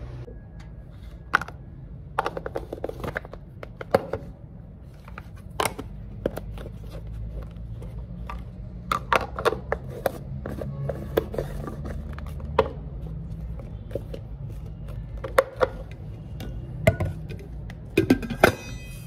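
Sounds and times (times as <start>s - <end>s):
plastic containers clicking and knocking: 1.3s - 4.4s, 5.0s - 18.6s.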